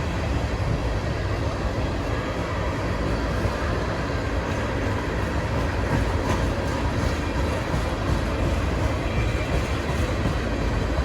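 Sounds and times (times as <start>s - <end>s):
freight train rumbling on rails: 0.0s - 11.0s.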